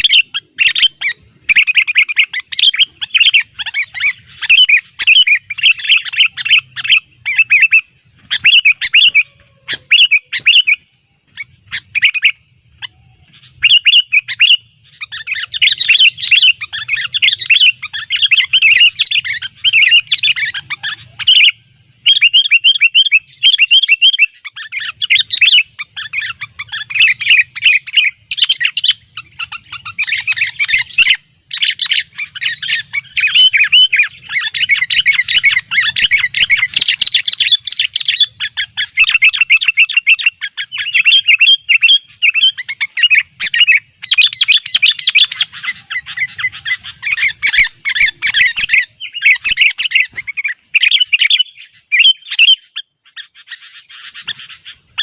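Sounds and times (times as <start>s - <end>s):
birds singing and chattering: 0.0s - 55.0s.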